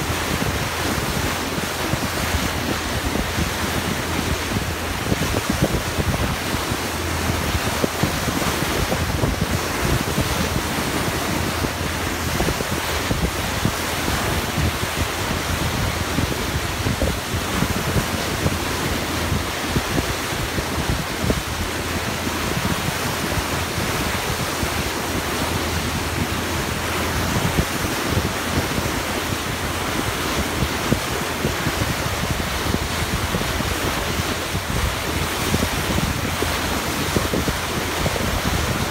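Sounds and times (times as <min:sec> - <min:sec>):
water rushing in bow wave: 0:00.0 - 0:38.9
wind buffeting microphone: 0:00.0 - 0:38.9.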